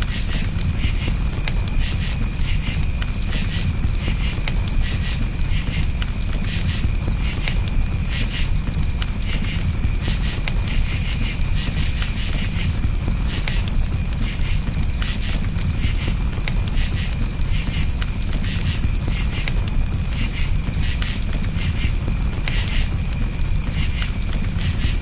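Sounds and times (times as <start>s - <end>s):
burning wood crackling: 0.0s - 25.0s
campfire burning: 0.0s - 25.0s
crickets chirping: 0.0s - 25.0s.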